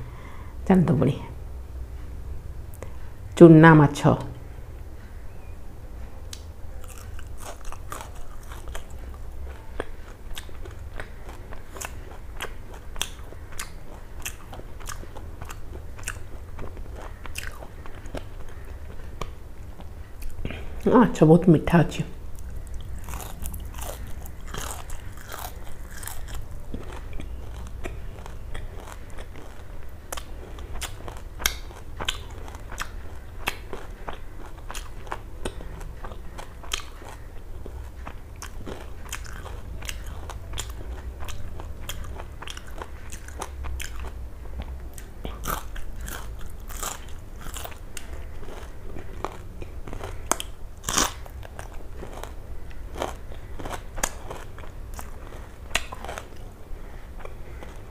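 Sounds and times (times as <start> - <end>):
low steady hum: 0.0 - 57.9
crunchy chewing and biting: 6.3 - 20.6, 22.3 - 57.9.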